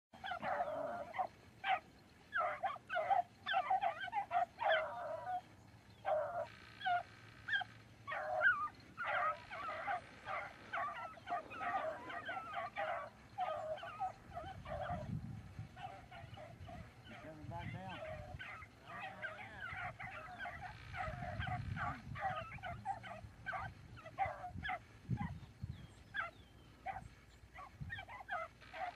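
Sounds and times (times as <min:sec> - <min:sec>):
hounds baying and yipping: 0:00.2 - 0:28.9.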